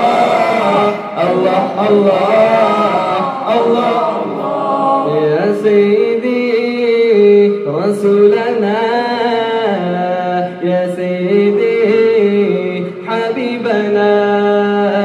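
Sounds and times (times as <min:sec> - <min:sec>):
man singing unaccompanied: 0:00.0 - 0:04.4, 0:05.0 - 0:15.0.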